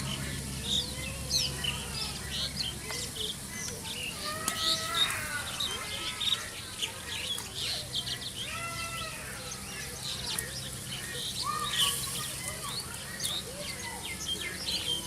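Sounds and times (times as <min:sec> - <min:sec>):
long arching calls: 0:00.0 - 0:15.0
small birds chirping: 0:00.0 - 0:15.0.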